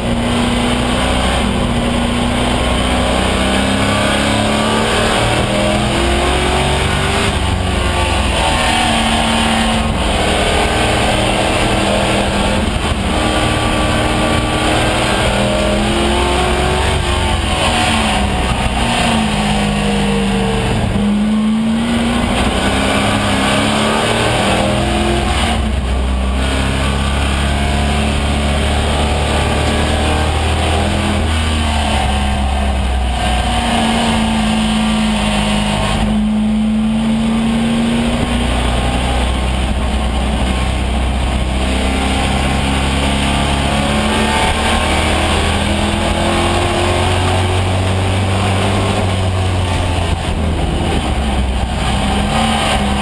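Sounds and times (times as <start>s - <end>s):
race car engine: 0.0s - 53.0s
road and wind noise: 0.0s - 53.0s.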